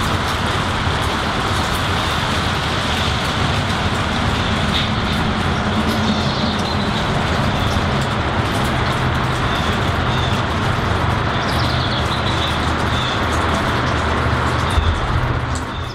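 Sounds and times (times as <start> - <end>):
rain pattering on leaves: 0.0 - 15.9.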